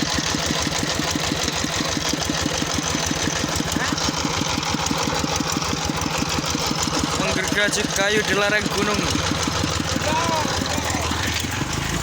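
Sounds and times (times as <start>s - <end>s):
engine chugging at low speed: 0.0s - 12.0s.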